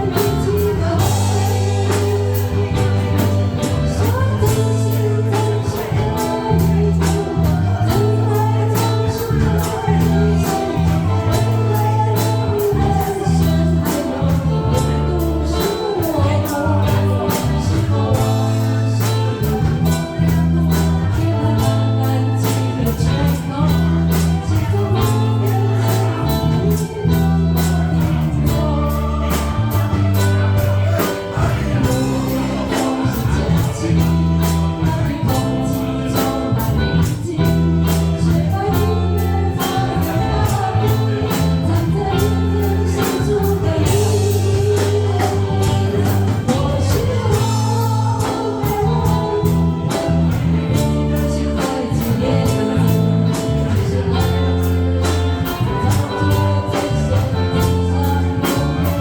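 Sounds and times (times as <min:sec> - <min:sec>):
bass line: 0:00.0 - 0:59.0
person singing pop-rock ballad: 0:00.0 - 0:59.0.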